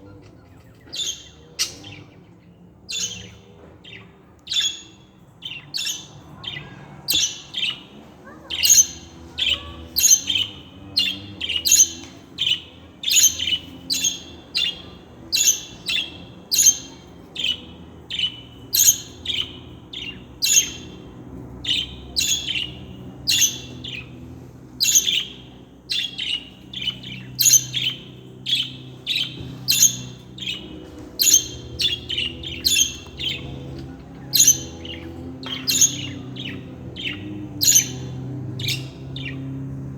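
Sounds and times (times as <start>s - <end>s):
budgerigars chirping: 0.2s - 2.2s, 2.9s - 39.7s.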